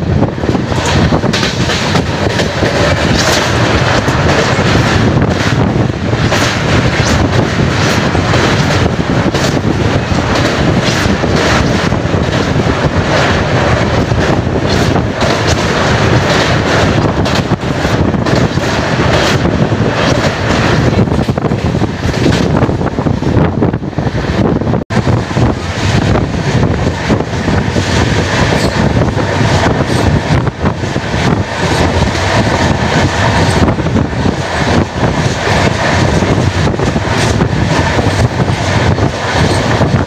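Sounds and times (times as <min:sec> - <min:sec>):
train running noise: 0:00.0 - 0:40.0
wind buffeting microphone: 0:00.0 - 0:40.0.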